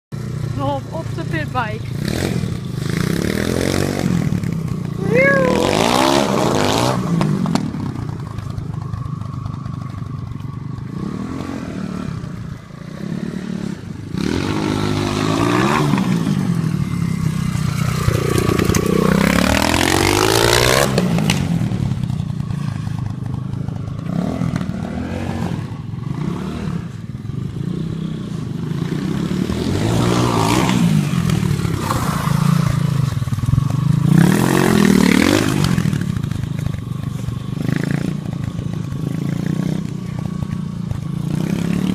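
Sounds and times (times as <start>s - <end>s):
small motorbike engine revving: 1.2s - 9.8s, 10.8s - 41.9s.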